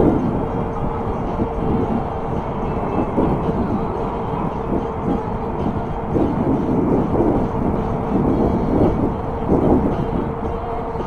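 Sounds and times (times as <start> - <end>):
hub motor whine: 0.0 - 11.0
wind buffeting microphone: 0.0 - 11.0.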